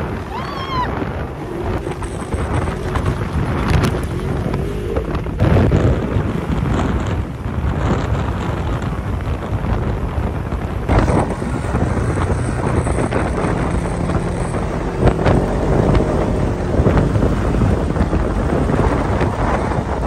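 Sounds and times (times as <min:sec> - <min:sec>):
dune buggy running: 0:00.0 - 0:20.0
wind buffeting microphone: 0:00.0 - 0:20.0.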